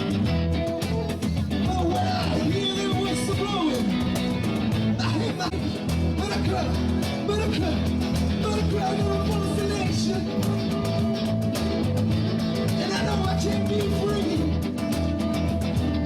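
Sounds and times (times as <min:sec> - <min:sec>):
lead guitar: 0:00.0 - 0:16.0
rock band playing: 0:00.0 - 0:16.0.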